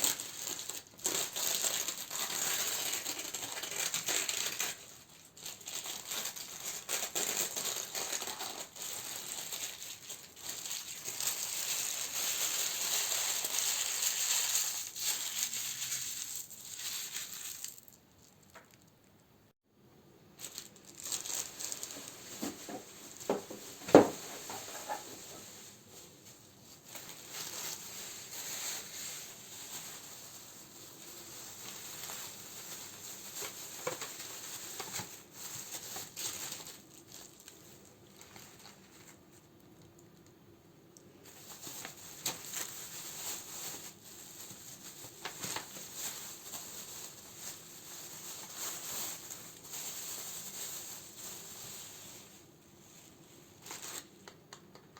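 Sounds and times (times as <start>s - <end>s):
plastic and paper crinkling: 0.0s - 18.9s, 20.3s - 40.3s, 41.0s - 54.9s.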